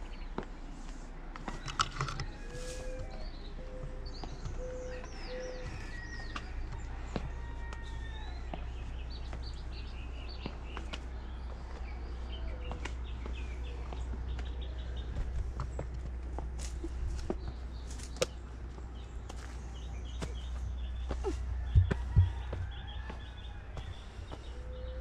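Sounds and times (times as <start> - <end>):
birds chirping and singing: 1.5 - 25.0.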